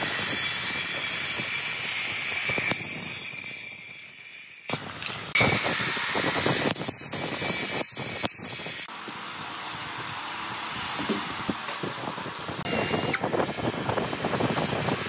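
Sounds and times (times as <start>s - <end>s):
circular saw cutting wood: 0.0s - 15.0s.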